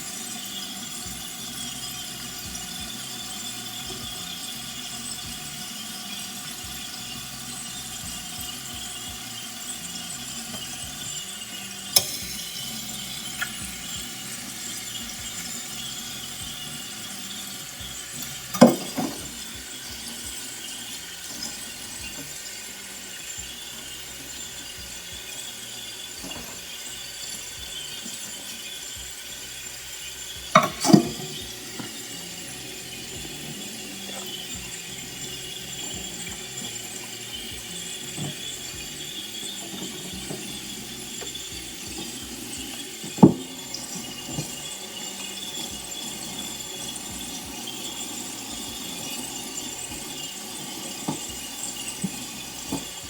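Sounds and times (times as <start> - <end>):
utensils clinking and scraping a pot: 0.0 - 53.0.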